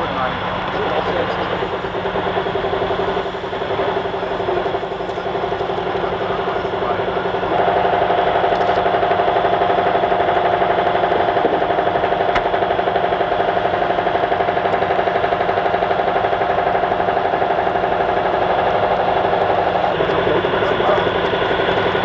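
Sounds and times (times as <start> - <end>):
heavy engine pulsing: 0.0 - 22.0
machinery whine: 0.0 - 22.0.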